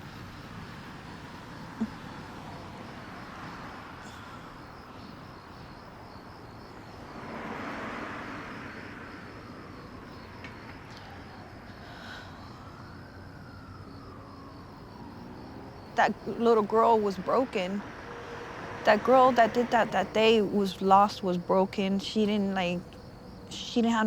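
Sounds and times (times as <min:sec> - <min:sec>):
insects chirping: 0:00.0 - 0:24.0
road traffic passing: 0:00.0 - 0:24.0.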